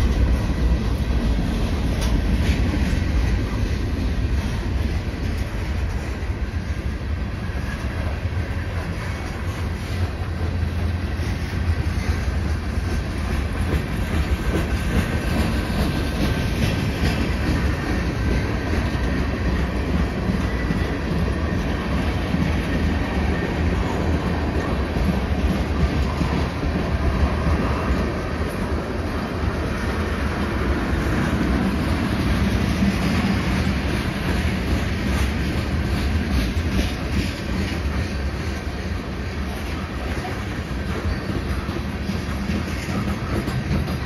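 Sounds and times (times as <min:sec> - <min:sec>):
steel wheels rumbling on rails: 0:00.0 - 0:44.0.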